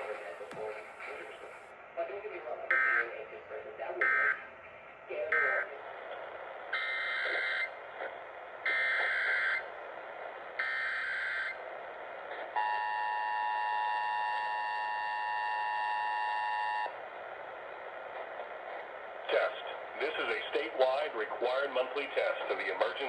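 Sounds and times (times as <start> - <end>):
faint radio hiss: 0.0 - 12.6, 16.9 - 23.0.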